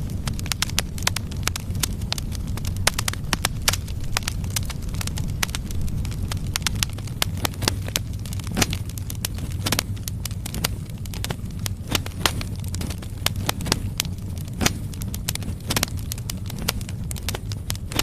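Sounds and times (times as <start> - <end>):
firewood crackling and popping: 0.0 - 18.0
low rumble of fire: 0.0 - 18.0.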